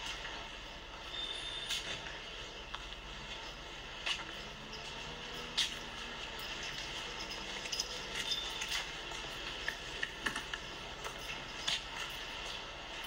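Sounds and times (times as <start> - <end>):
steady street hiss: 0.0 - 13.0.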